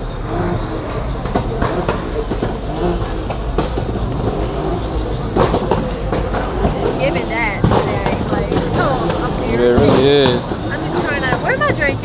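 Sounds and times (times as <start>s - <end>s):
car engines rumbling: 0.0s - 12.0s
faint voices talking: 0.0s - 12.0s.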